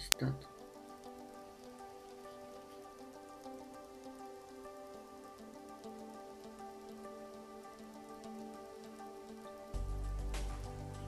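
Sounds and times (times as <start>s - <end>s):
faint patter of ticks: 0.0s - 11.0s
quiet sustained background music: 0.0s - 11.0s.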